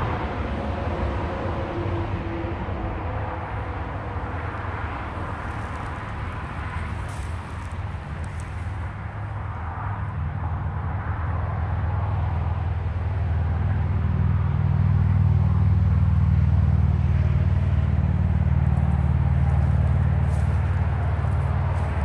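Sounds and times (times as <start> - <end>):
vehicle engine running: 0.0 - 10.9, 12.7 - 22.0.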